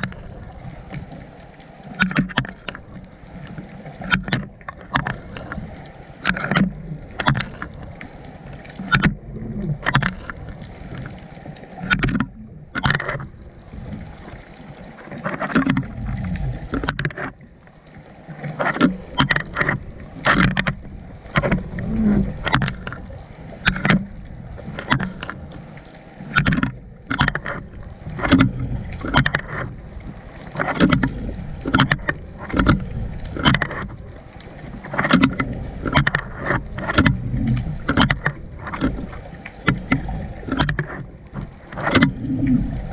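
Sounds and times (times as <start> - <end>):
muffled water sloshing: 0.0 - 42.9.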